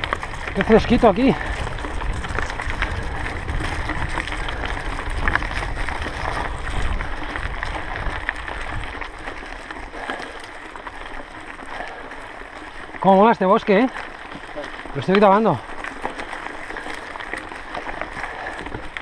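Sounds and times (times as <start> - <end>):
wind rumbling on microphone: 0.0 - 13.0, 15.6 - 19.0
bike clicks and rattles: 0.0 - 19.0
bike tyres crunching on trail: 0.0 - 19.0.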